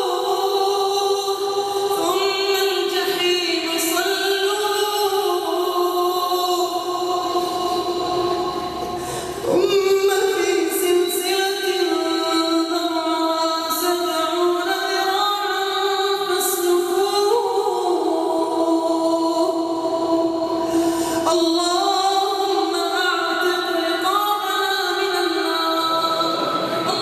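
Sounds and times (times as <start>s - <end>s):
person chanting melodically: 0.0s - 27.0s.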